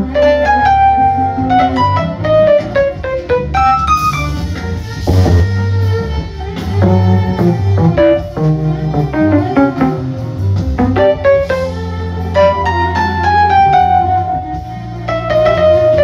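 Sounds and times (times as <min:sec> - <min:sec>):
instrumental band music: 0:00.0 - 0:16.0.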